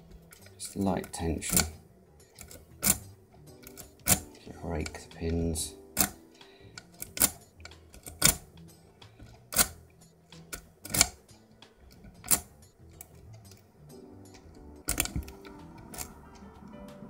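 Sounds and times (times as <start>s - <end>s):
lock pick clicking in lock: 0.3s - 16.3s.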